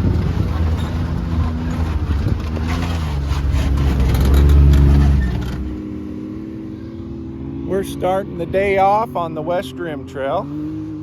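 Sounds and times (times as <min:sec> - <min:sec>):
engine accelerating: 0:00.0 - 0:11.0.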